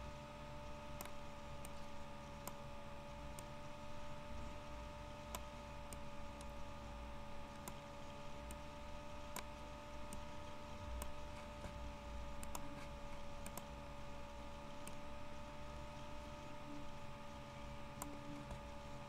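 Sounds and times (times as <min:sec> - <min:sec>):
electrical hum: 0:00.0 - 0:19.0
low room rumble: 0:00.0 - 0:19.0
computer mouse clicking: 0:00.4 - 0:19.0.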